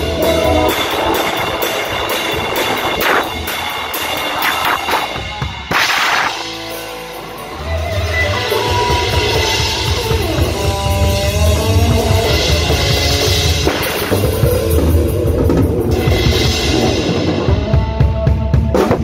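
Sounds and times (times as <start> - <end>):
cymbals crashing: 0.0 - 17.6
live rock music: 0.0 - 19.0.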